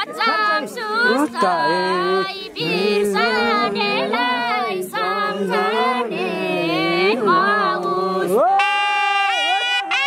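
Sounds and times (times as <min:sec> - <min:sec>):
woman singing unaccompanied: 0:00.0 - 0:08.4.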